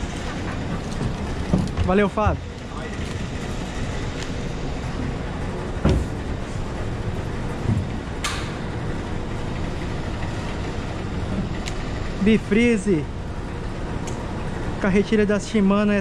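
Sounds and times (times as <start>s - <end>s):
boat low rumble and hiss: 0.0s - 16.0s.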